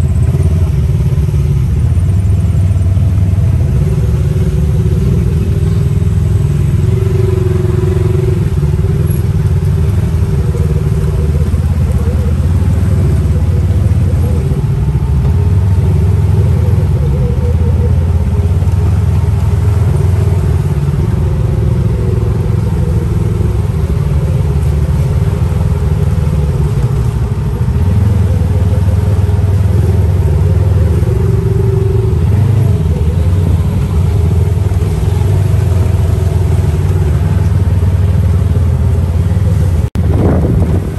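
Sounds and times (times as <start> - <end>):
buggy engine running: 0.0 - 40.9.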